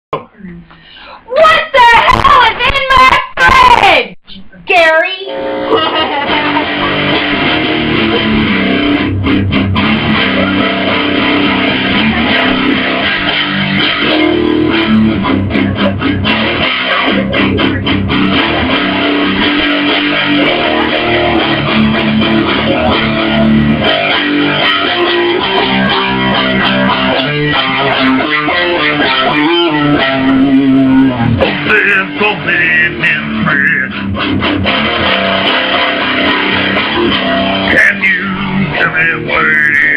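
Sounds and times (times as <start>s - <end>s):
instrumental rock music: 5.3s - 39.9s.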